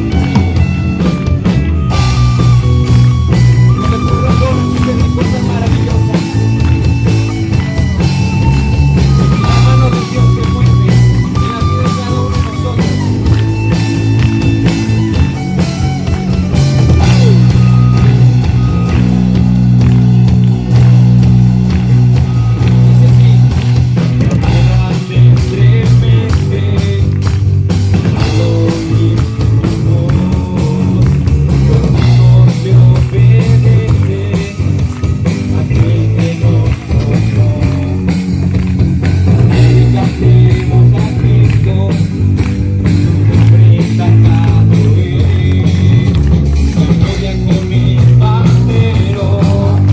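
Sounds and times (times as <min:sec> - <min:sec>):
low bass notes: 0:00.0 - 0:49.9
rock band music: 0:00.0 - 0:49.9.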